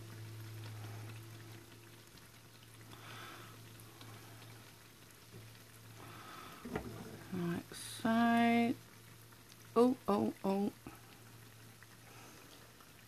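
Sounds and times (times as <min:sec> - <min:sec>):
low steady hum: 0:00.0 - 0:13.0
oil sizzling and crackling: 0:00.0 - 0:13.0.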